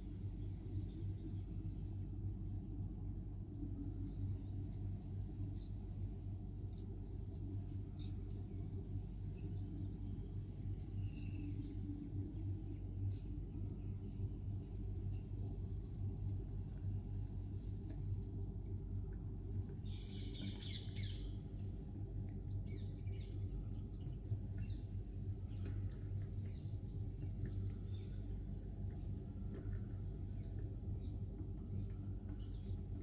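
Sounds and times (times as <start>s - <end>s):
low hum: 0.0s - 33.0s
sparrows chirping: 0.0s - 33.0s.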